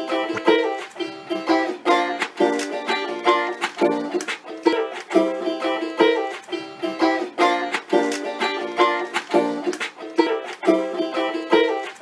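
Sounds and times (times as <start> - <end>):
plucked string instrument tune: 0.0 - 12.0.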